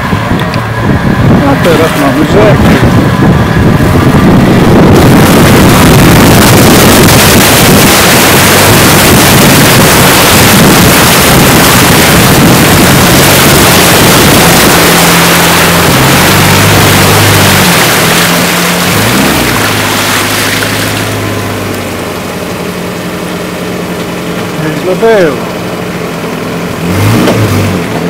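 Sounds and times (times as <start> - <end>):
rush of water against vehicle: 0.0 - 28.0
vehicle engine running: 0.0 - 28.0.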